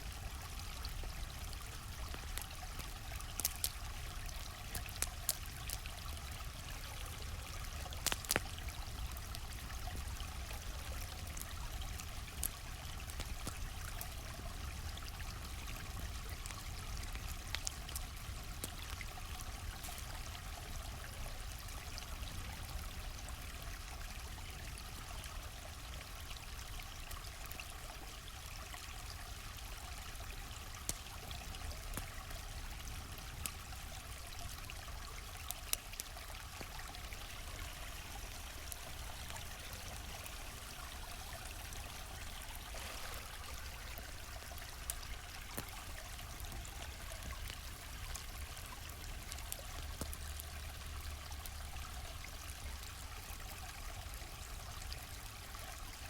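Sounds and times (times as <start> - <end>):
campfire crackling and popping: 0.0 - 54.2
stream flowing: 0.0 - 56.0.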